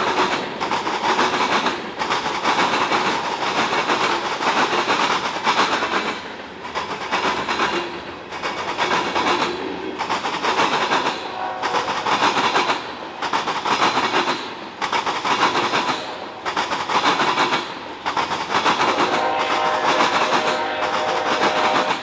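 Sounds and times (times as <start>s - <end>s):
train wheels clacking over crossing: 0.0s - 22.0s.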